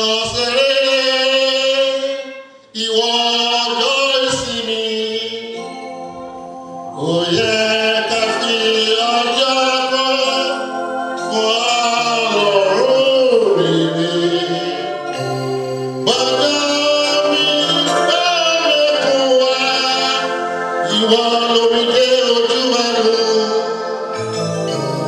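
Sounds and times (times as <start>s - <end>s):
man singing into a microphone: 0.0s - 6.3s, 6.9s - 24.3s.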